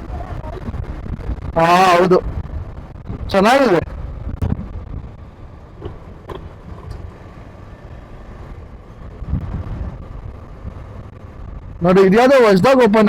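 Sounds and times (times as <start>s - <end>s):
motorcycle engine and road noise: 0.0s - 13.0s.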